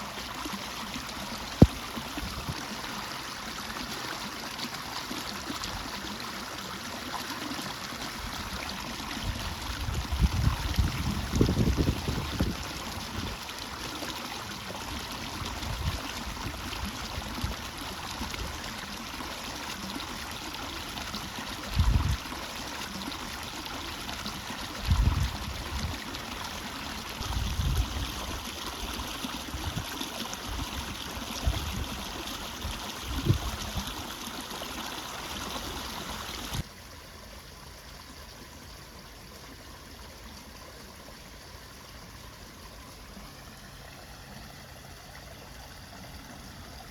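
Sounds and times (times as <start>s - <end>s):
water running and trickling: 0.0s - 46.9s.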